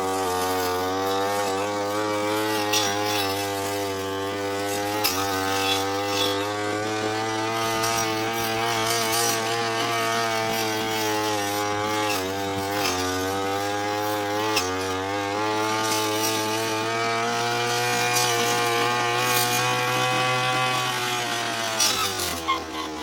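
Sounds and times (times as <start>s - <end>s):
brush cutter cutting grass: 0.0s - 23.0s.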